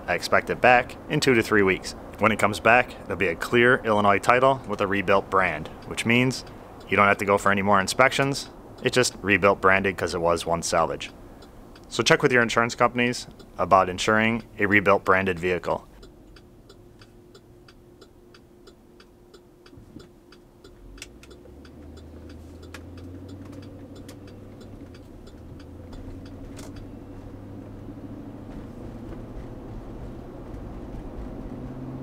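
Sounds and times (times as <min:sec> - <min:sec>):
engine running hum: 0:00.0 - 0:32.0
regular ticking clicks: 0:03.0 - 0:30.7.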